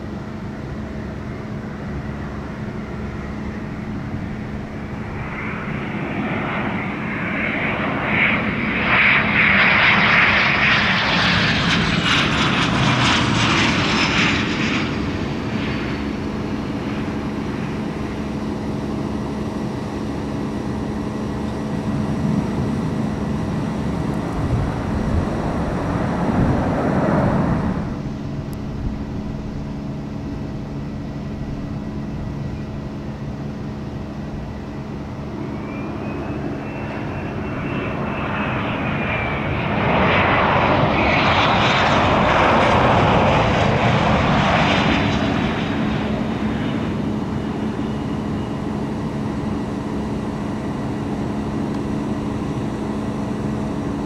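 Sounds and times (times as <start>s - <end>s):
jet engine: 0.0s - 54.0s
jet landing with turbofan whine: 0.0s - 54.0s.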